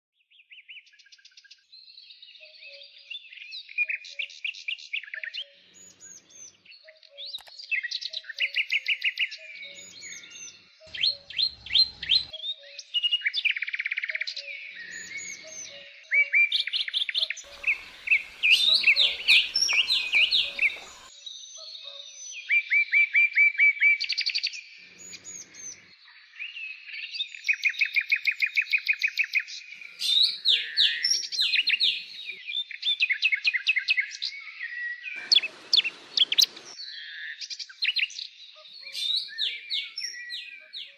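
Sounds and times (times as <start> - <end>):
birds chirping and singing: 1.7 - 40.9.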